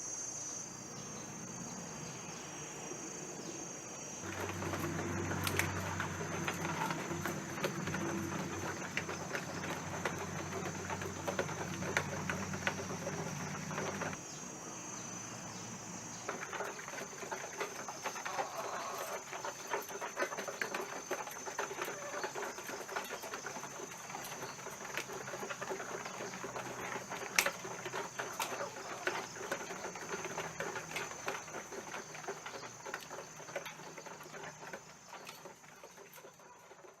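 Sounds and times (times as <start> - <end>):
hens pecking and scratching: 4.2 - 14.2, 16.1 - 37.0.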